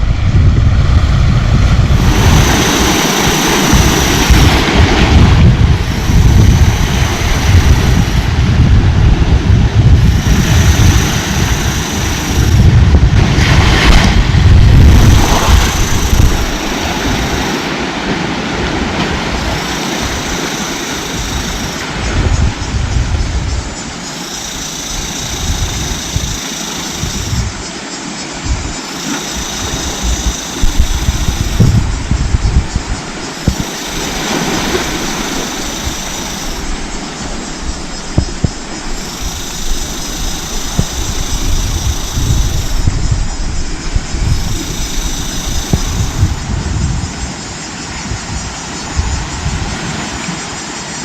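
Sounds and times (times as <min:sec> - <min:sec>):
high steady buzz: 0:00.0 - 0:49.7
sea surf: 0:00.0 - 0:51.0
wind rumbling on microphone: 0:00.0 - 0:51.0.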